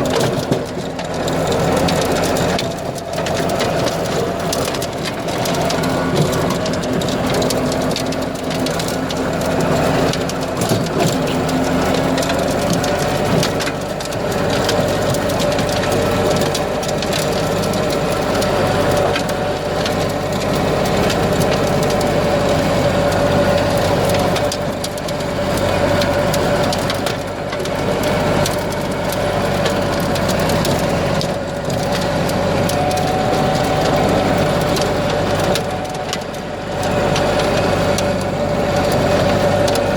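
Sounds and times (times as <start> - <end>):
implement crackling and crunching soil: 0.0 - 39.9
tractor engine running: 0.0 - 39.9.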